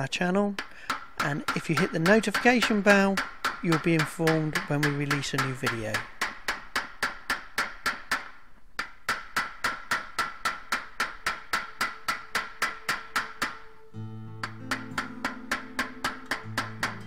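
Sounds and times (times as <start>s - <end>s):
hammer tapping on sheet metal: 0.6s - 13.7s, 14.4s - 17.0s.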